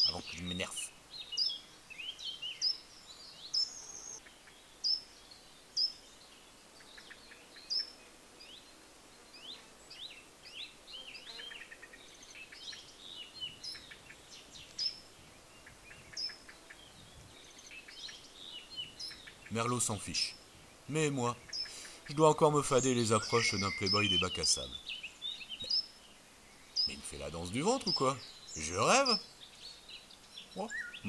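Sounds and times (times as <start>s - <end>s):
faint outdoor hiss: 0.0s - 31.0s
songbirds singing and chirping: 0.0s - 31.0s.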